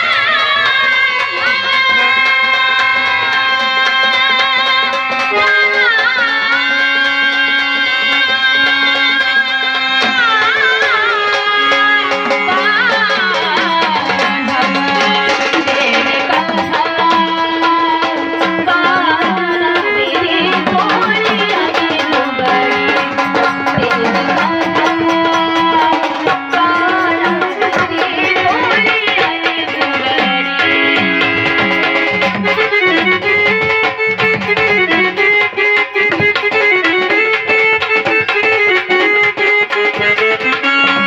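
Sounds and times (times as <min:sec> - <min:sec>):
hand drum rhythm: 0:00.0 - 0:41.0
sustained melody instrument: 0:00.0 - 0:41.0.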